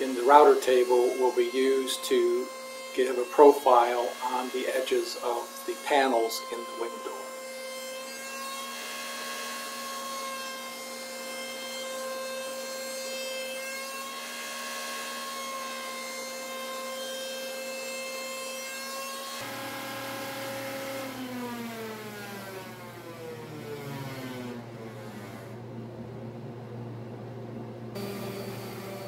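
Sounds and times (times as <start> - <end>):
router whining cutting wood: 0.0 - 25.6, 28.0 - 29.0.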